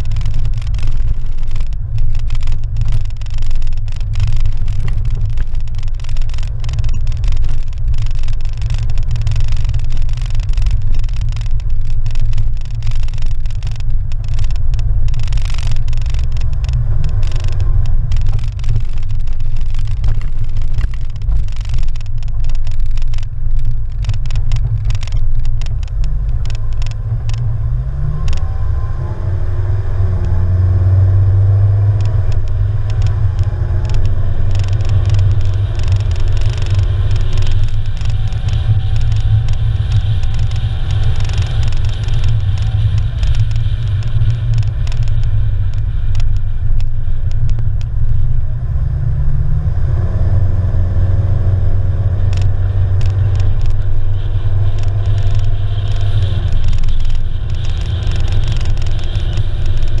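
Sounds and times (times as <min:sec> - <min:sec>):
car engine and tyre rumble: 0:00.0 - 1:00.0
small clicks from road surface: 0:00.0 - 1:00.0.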